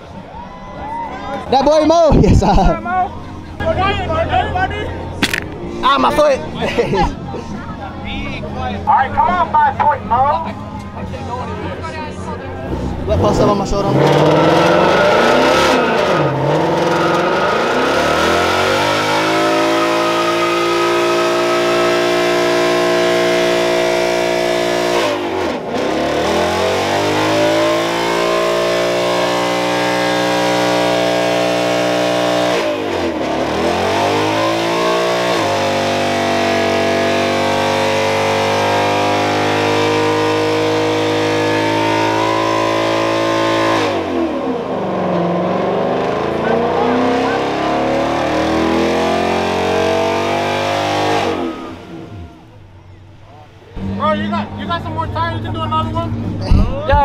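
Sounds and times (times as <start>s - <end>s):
car engine revving: 1.5s - 57.0s.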